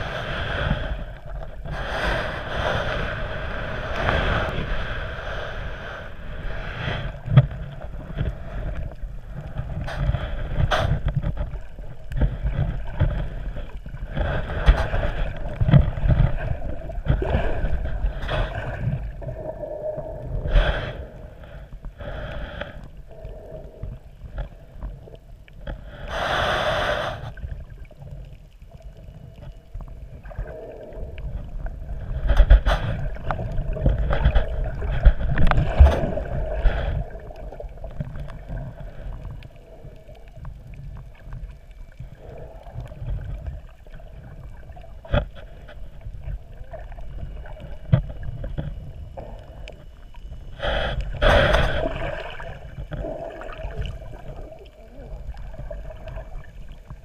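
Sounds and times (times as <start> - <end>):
low rumble of moving water: 0.0 - 57.0
water gurgling and sloshing: 0.0 - 57.0.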